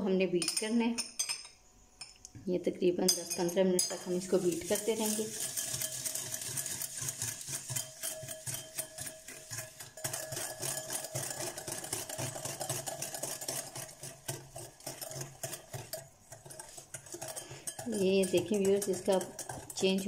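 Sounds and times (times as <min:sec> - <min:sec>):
whisk clicking against glass bowl: 0:03.1 - 0:20.0.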